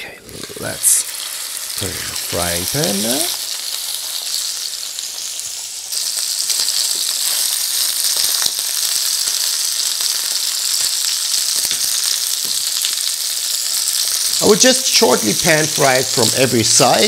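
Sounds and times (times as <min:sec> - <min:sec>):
meat sizzling in a pan: 0:00.3 - 0:17.0.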